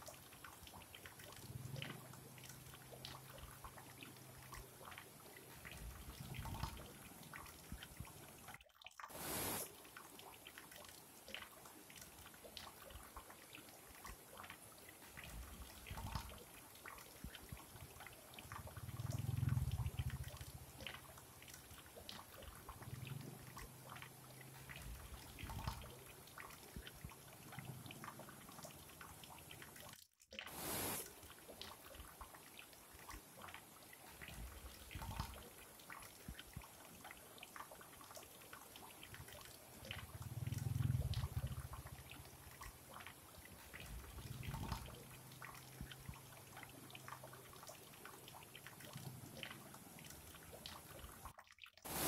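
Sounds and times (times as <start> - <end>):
small splashes and drips: 0.0 - 52.0.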